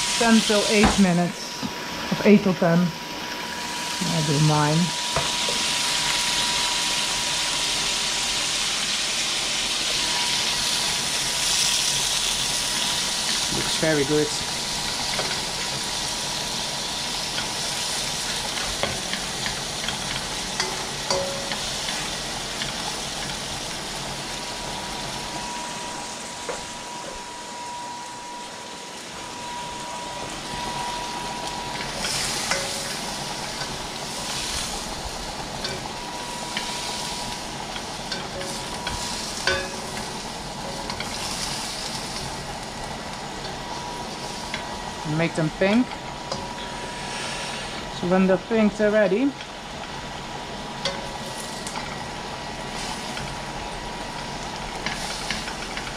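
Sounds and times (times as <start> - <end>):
shrimp sizzling in hot oil: 0.0 - 55.9.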